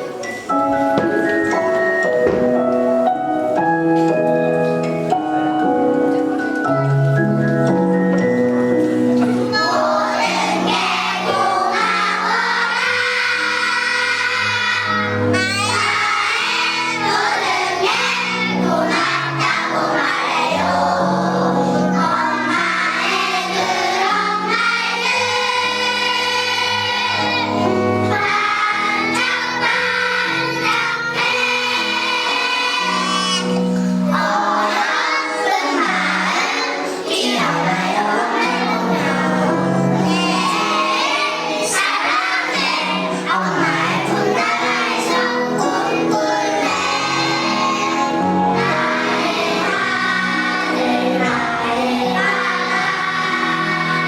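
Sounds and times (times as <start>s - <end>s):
children's choir singing: 0.0s - 54.0s
instrumental accompaniment: 0.0s - 54.0s.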